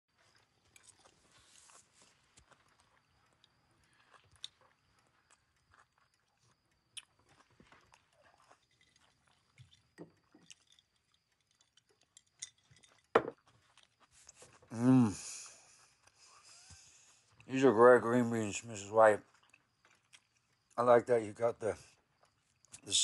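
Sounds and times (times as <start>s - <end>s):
quiet chewing: 0.1s - 23.0s.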